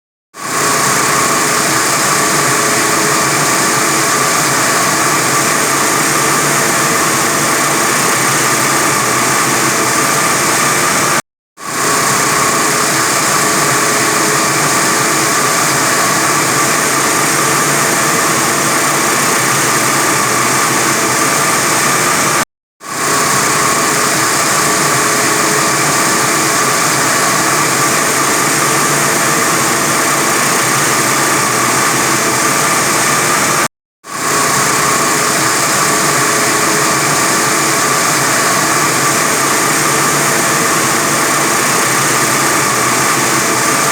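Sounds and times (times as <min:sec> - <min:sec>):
wire saw cutting concrete: 0:00.4 - 0:43.9.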